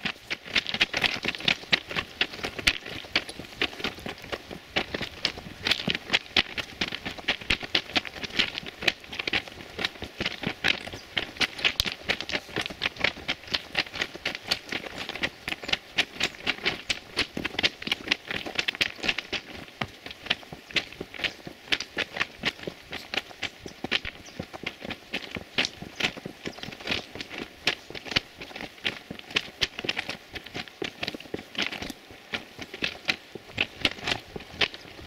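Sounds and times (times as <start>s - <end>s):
footsteps crunching on gravel: 0.0s - 35.0s.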